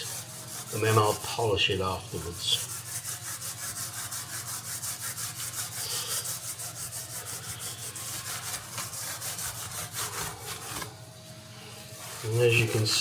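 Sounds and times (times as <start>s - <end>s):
steel wool scrubbing chrome: 0.0s - 13.0s.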